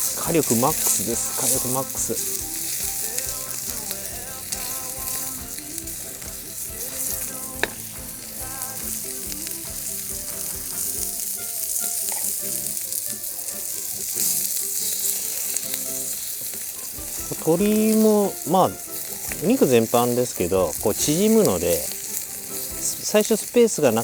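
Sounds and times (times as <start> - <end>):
chicken sizzling on a griddle: 0.0 - 24.0
fire crackling: 0.0 - 24.0.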